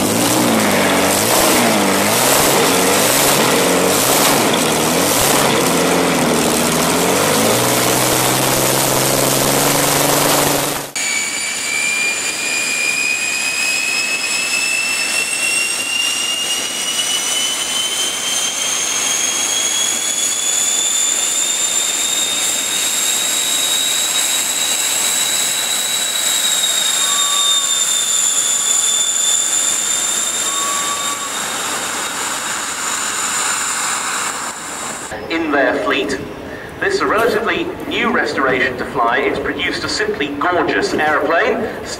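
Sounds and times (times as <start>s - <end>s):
jet engines rushing with high whine: 0.0s - 41.9s.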